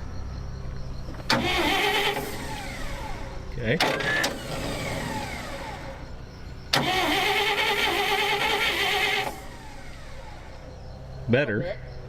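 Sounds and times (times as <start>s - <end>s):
falling whine: 1.0s - 11.0s
starter motor cranking engine: 1.0s - 11.2s.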